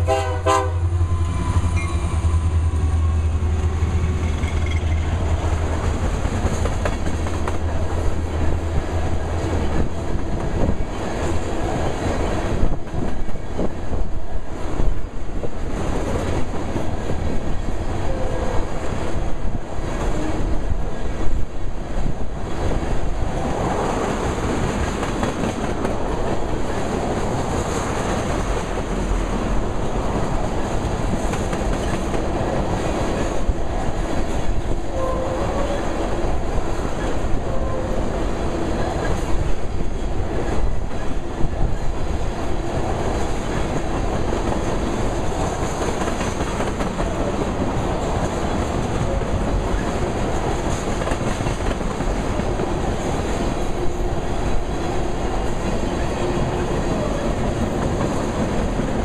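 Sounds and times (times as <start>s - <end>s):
freight train rolling on rails: 0.0s - 59.0s
clickety-clack over rail joints: 3.4s - 59.0s.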